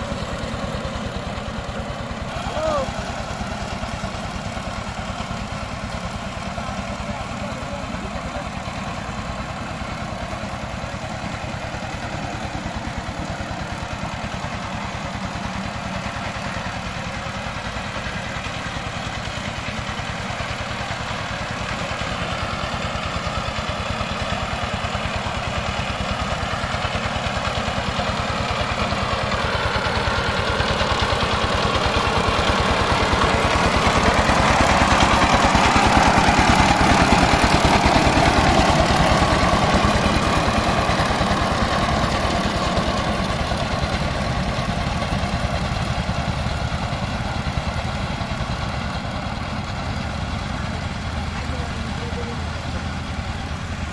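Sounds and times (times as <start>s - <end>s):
diesel tiller engine chugging: 0.0s - 53.9s.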